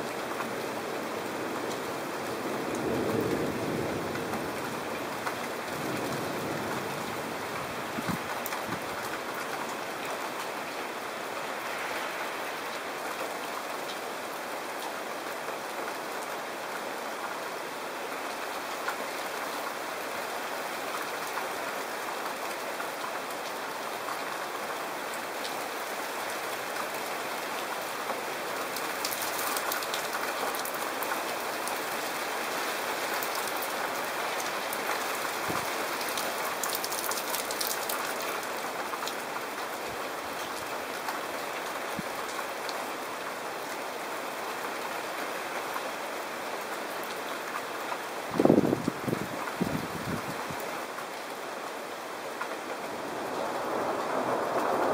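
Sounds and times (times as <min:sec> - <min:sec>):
heavy rain on wet pavement: 0:00.0 - 0:54.9.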